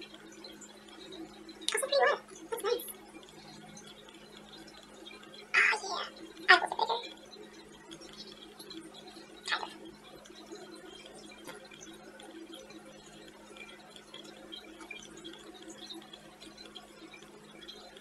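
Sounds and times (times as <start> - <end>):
bubbly water trickle: 0.0 - 18.0.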